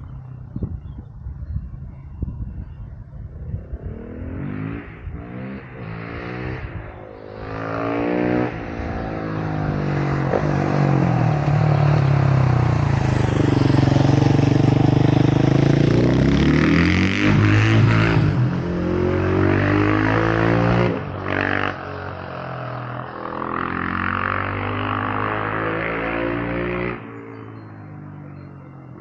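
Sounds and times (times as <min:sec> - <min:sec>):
motorcycle engine accelerating: 0:02.6 - 0:29.0.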